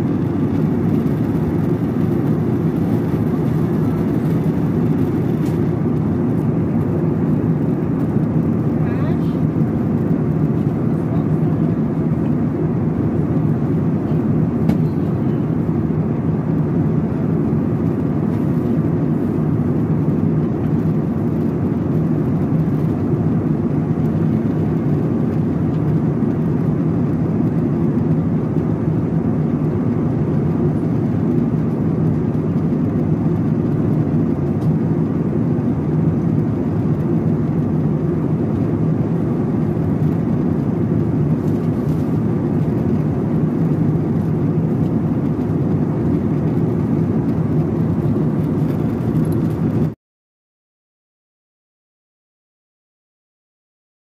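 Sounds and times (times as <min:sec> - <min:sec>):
jet airliner cabin drone: 0:00.0 - 0:50.0.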